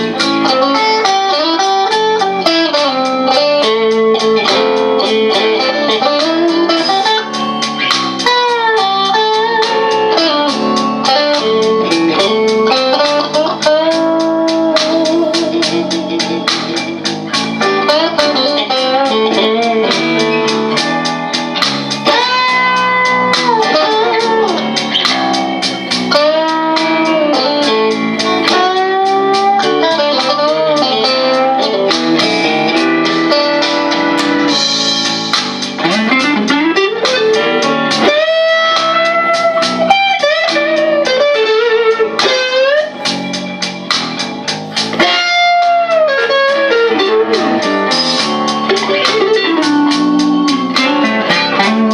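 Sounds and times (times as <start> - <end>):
blues backing track: 0.0 - 51.9
electric guitar blues lead: 0.0 - 51.9.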